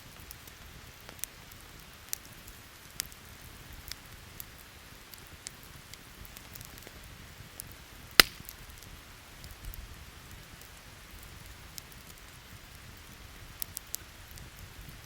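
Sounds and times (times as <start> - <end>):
campfire crackling: 0.0 - 15.0
fire popping: 0.0 - 15.0
steady rain: 0.0 - 15.0.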